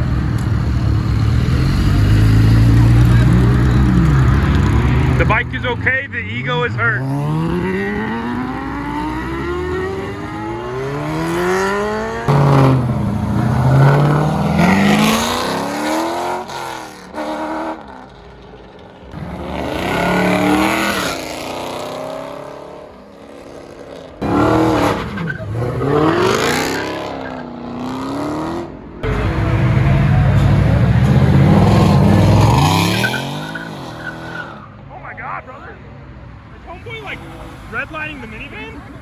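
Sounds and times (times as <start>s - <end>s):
car engines accelerating hard: 0.0s - 35.5s, 36.1s - 39.0s
cars sweeping past: 0.0s - 39.0s.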